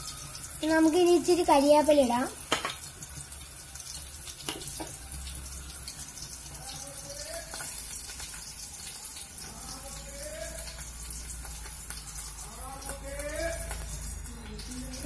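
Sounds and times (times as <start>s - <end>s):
food sizzling in hot oil: 0.0s - 15.0s
oil crackling and popping: 0.0s - 15.0s.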